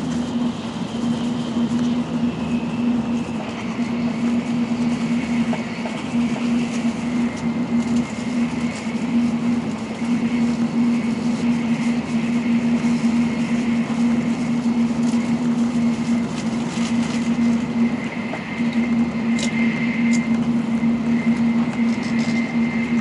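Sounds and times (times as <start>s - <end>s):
train cabin rushing rumble: 0.0s - 23.0s.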